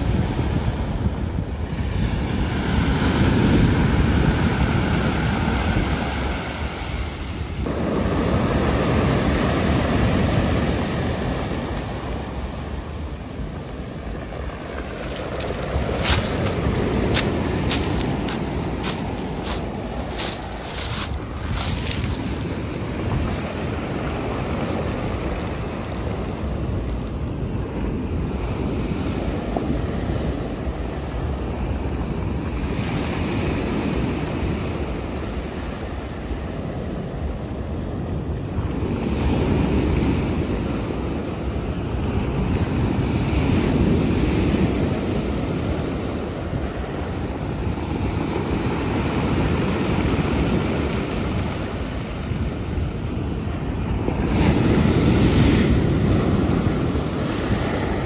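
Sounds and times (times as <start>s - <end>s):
sea waves washing onto shore: 0.0s - 58.0s
wind buffeting microphone: 0.0s - 58.0s.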